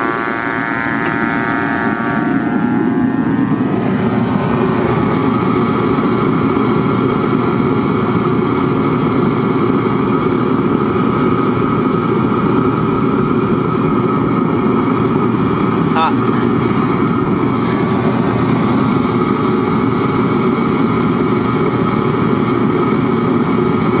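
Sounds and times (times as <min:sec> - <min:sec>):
heater roar of forced air and flame: 0:00.0 - 0:24.0
steady whine: 0:00.0 - 0:24.0.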